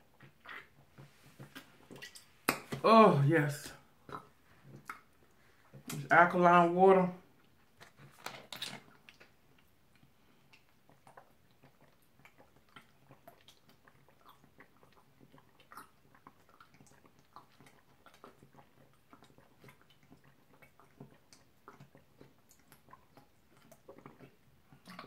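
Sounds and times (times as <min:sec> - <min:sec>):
person gulping water: 0:00.0 - 0:06.1, 0:07.2 - 0:25.0.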